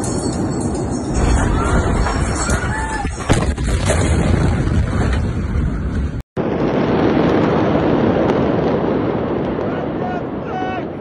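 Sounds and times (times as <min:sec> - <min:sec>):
wind noise on microphone: 0:00.0 - 0:11.0
explosion rumbling: 0:00.4 - 0:11.0.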